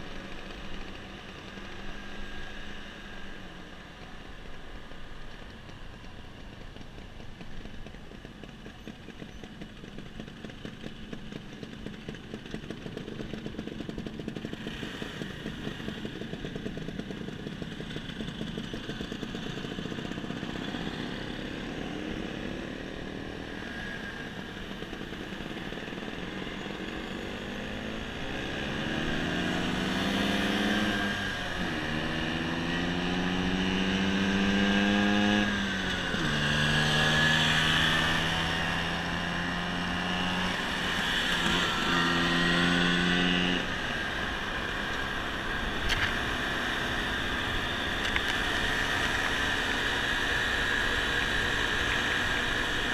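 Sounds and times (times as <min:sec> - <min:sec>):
motor scooter engines: 0:00.0 - 0:52.9.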